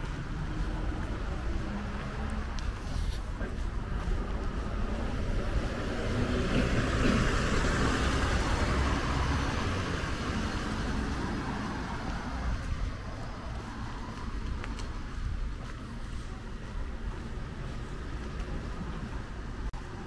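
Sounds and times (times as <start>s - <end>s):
car passing: 0.0s - 20.0s.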